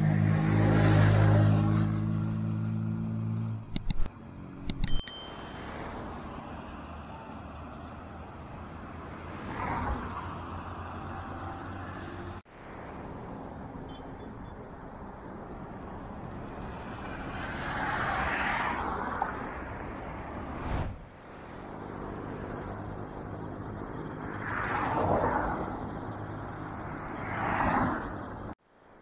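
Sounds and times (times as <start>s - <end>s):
cars passing by: 0.0s - 29.0s
steady traffic hum: 0.0s - 29.0s.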